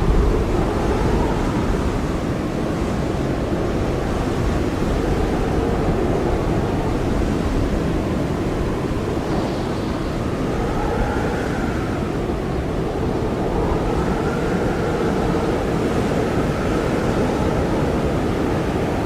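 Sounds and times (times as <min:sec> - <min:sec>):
blizzard wind rushing: 0:00.0 - 0:19.0
hollow wind howl: 0:00.0 - 0:19.0.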